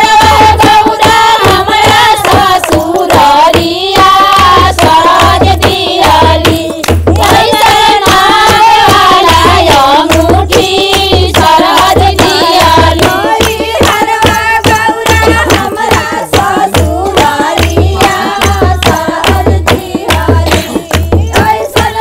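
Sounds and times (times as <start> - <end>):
deep regular drum beat: 0.0 - 22.0
rhythmic hand-clapping: 0.0 - 22.0
women singing devotional song: 0.0 - 22.0.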